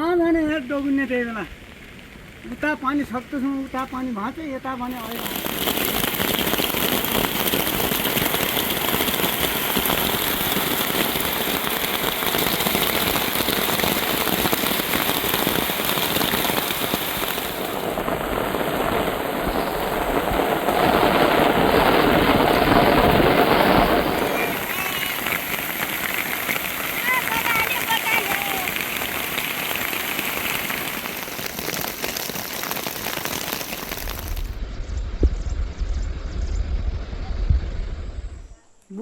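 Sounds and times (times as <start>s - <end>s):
heavy rain patter: 0.0s - 34.6s.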